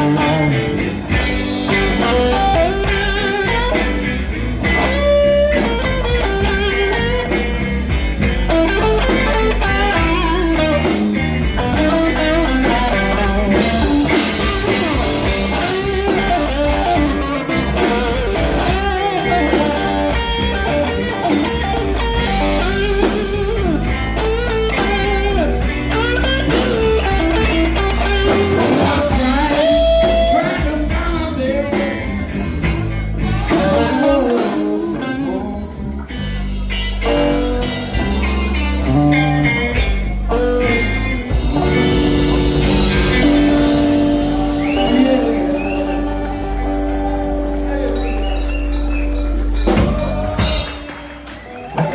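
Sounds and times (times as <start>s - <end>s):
lead guitar: 0.0s - 51.9s
live blues band: 0.0s - 51.9s.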